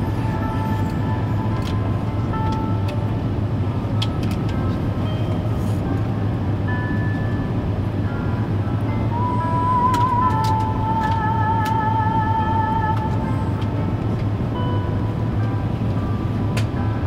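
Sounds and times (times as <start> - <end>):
airliner cabin engine rumble: 0.0 - 17.0
faint music: 0.0 - 17.0.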